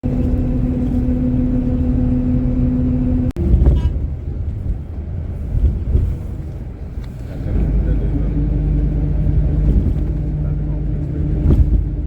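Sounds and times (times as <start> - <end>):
rough low rumble: 0.0 - 12.0
vehicle drone: 0.0 - 12.0.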